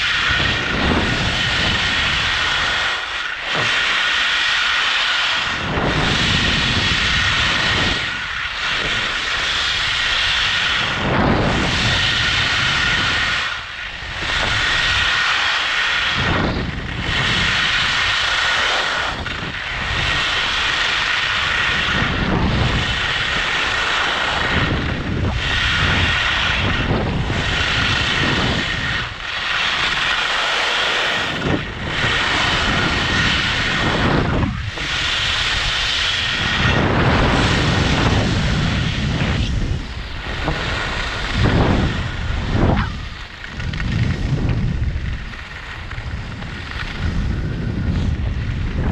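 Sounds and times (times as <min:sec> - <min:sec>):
skis scraping on snow: 0:00.0 - 0:48.9
wind on microphone: 0:00.0 - 0:48.9.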